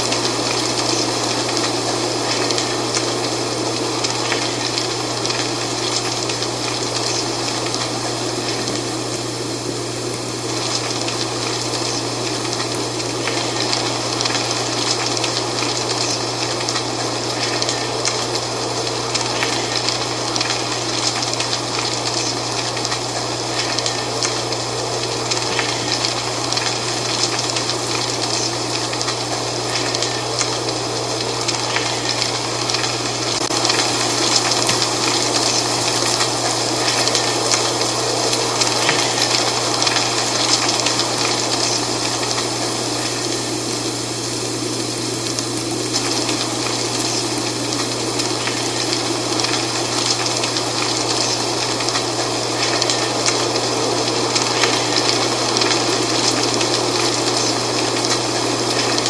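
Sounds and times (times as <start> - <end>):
dry leaves rustling: 9.9 - 59.0.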